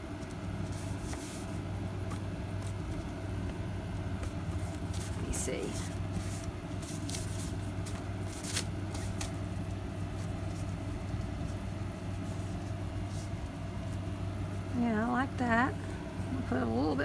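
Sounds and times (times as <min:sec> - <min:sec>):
steady low hum: 0:00.0 - 0:17.0
paper rustling and crinkling: 0:00.1 - 0:14.1.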